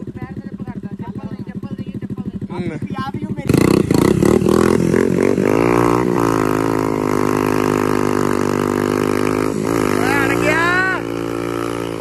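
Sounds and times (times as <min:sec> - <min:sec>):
motorcycle engines revving hard: 0:00.0 - 0:12.0.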